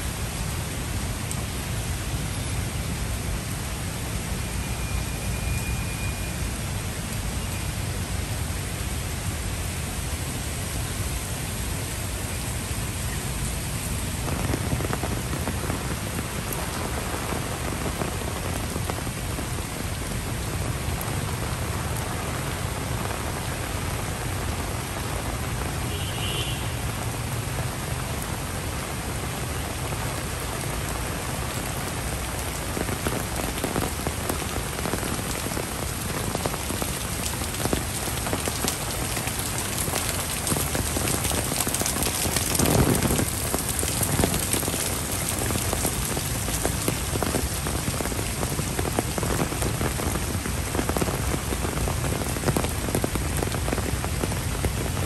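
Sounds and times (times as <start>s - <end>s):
rain falling on pavement: 0.0s - 55.0s.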